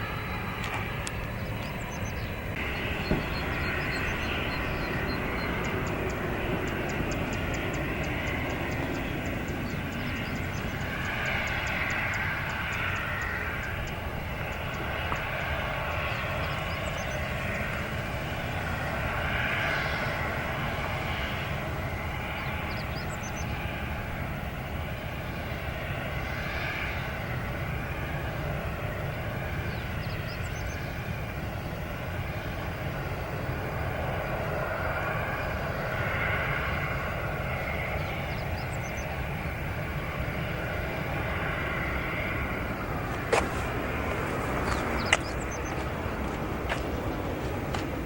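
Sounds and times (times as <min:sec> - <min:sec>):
jet engines rumbling and whining: 0:00.0 - 0:48.0.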